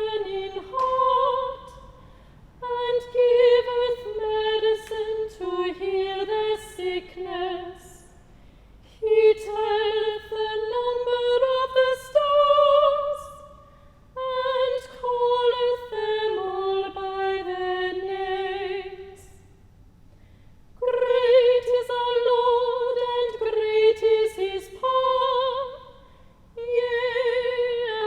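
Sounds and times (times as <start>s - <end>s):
woman singing with vibrato: 0.0s - 8.2s, 8.9s - 19.5s, 20.8s - 28.0s.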